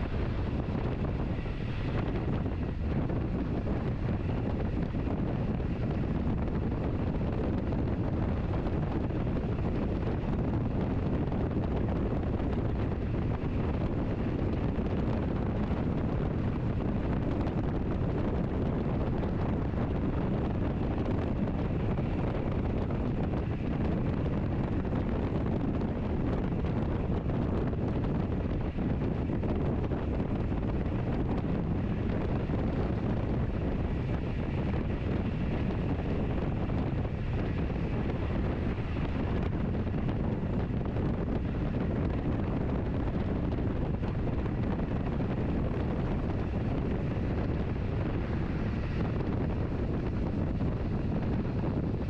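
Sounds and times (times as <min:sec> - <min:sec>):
wind noise: 0:00.0 - 0:52.0.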